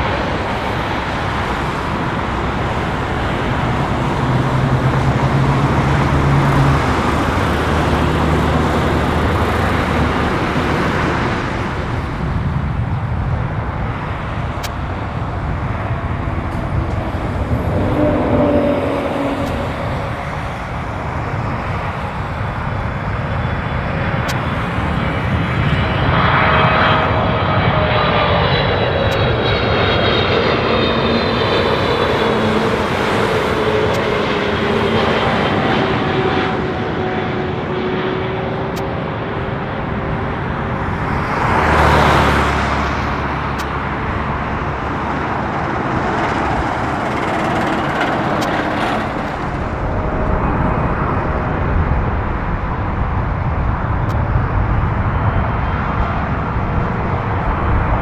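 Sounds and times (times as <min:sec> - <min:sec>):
jet airliner passing overhead: 0:00.0 - 0:58.0
road vehicle passing close: 0:00.0 - 0:58.0.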